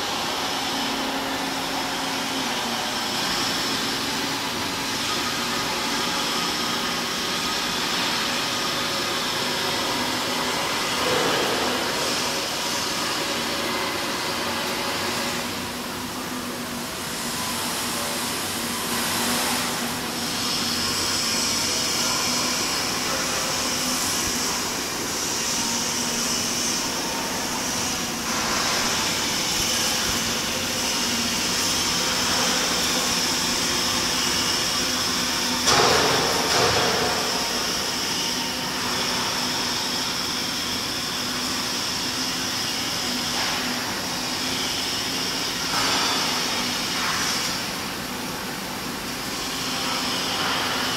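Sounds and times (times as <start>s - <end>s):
high mechanical whine: 0.0s - 50.9s.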